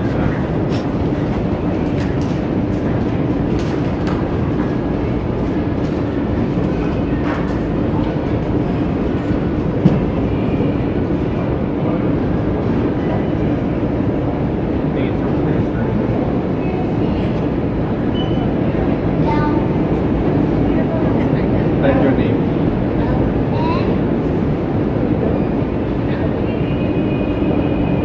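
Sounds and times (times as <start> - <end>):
constant hum: 0.0 - 28.0.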